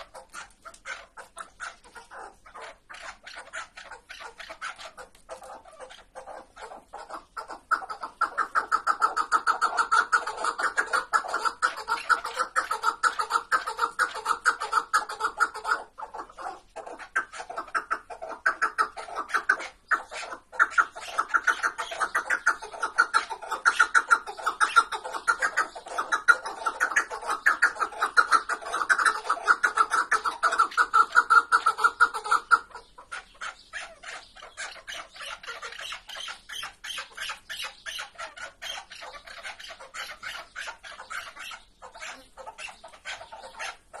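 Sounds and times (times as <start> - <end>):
partridge clucking calls: 0.0 - 44.0.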